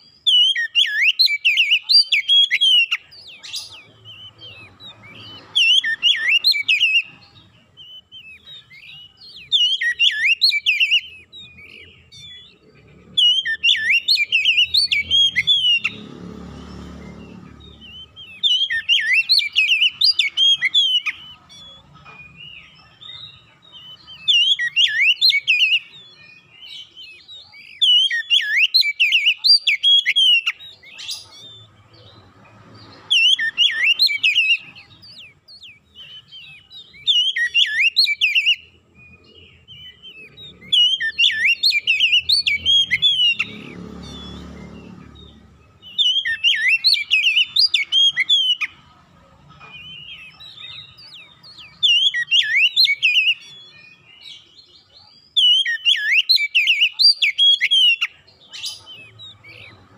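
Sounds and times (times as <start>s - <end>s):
bird singing whistled phrases: 0.0s - 16.0s, 17.1s - 32.2s, 32.8s - 48.8s, 49.8s - 59.8s.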